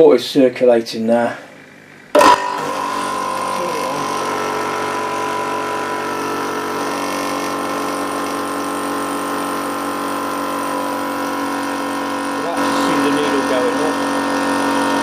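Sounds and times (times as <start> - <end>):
air compressor running: 1.4 - 15.0.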